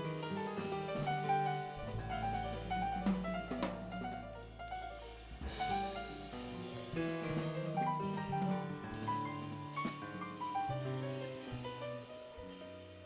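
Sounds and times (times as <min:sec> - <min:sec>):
instrumental music: 0:00.0 - 0:13.0.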